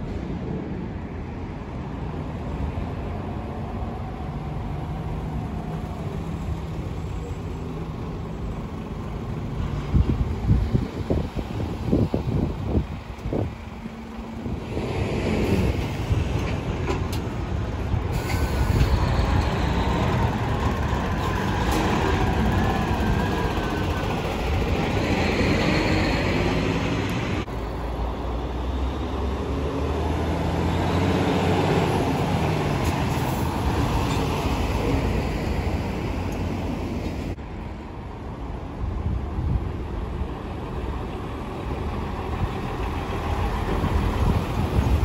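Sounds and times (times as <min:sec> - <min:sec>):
diesel trucks driving past: 0:00.0 - 0:45.0.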